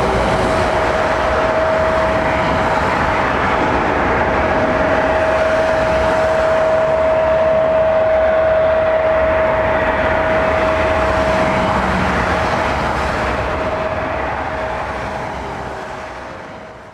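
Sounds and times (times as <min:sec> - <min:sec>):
jet engines at takeoff power: 0:00.0 - 0:16.9.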